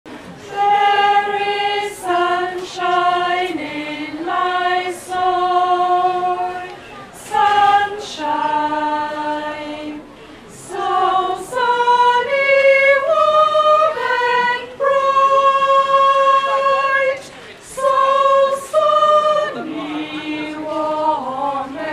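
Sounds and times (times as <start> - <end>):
women's choir singing: 0.3 - 21.9.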